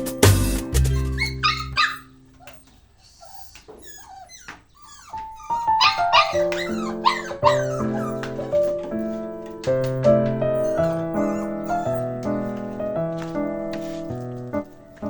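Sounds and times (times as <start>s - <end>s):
background music with keyboard: 0.0s - 2.3s, 5.2s - 15.0s
dog whining and yipping: 0.8s - 15.0s.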